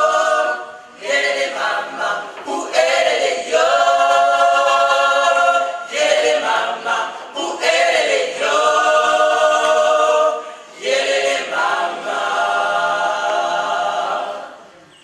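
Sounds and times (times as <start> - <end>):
choir singing unaccompanied: 0.0 - 14.9.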